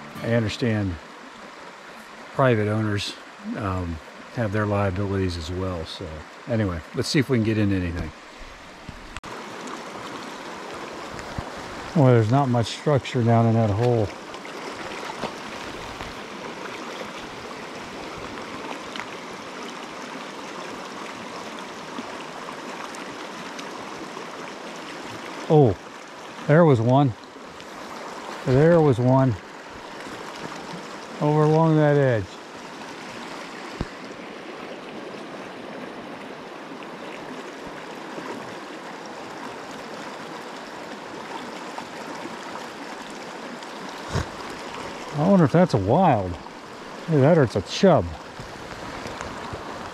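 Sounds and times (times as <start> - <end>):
stream water rushing: 0.0 - 49.9.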